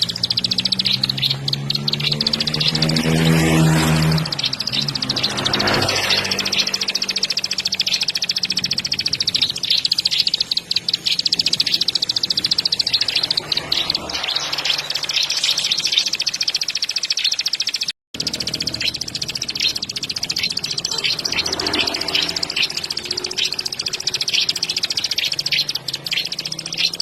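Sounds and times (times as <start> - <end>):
bird high chattering song: 0.0 - 27.0.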